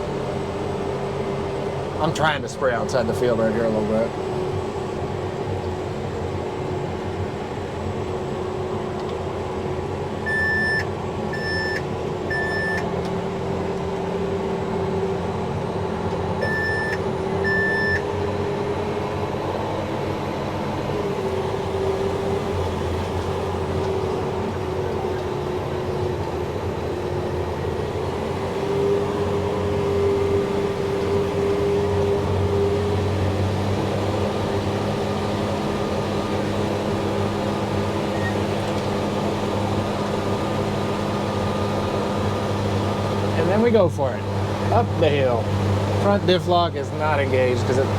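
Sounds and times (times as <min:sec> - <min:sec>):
diesel engine running under load: 0:00.0 - 0:47.9.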